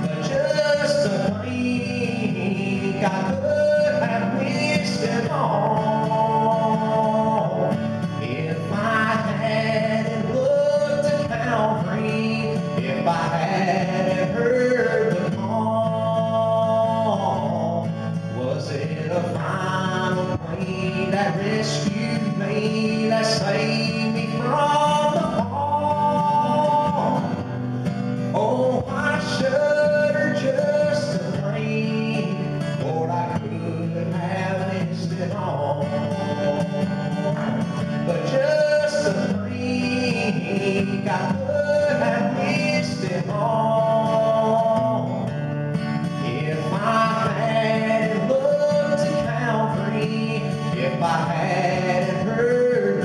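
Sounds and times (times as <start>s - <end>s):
acoustic guitar: 0.0s - 53.0s
man singing: 0.0s - 53.0s.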